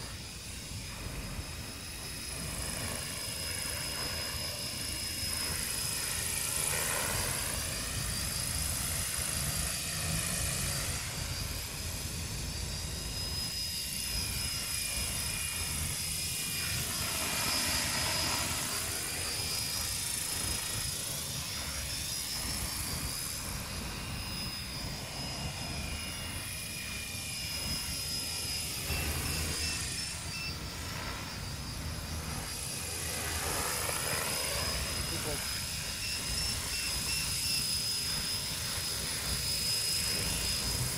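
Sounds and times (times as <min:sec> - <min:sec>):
helicopter rotors whirring: 0:00.0 - 0:40.9
high-pitched motor whine: 0:00.0 - 0:40.9.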